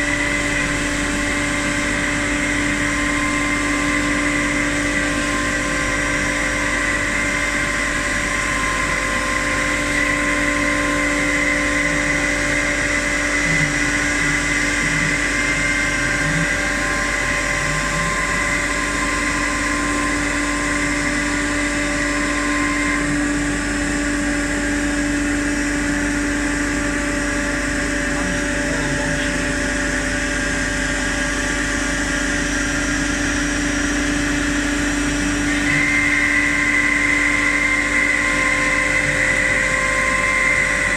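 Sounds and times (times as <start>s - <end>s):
high whine: 0.0s - 40.9s
machine humming: 0.0s - 40.9s.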